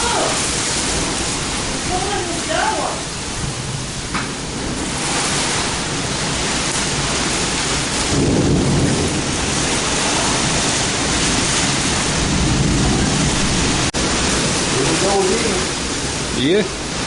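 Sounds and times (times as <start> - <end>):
heavy rain pouring: 0.0 - 17.0
thunder rumble: 0.0 - 17.0.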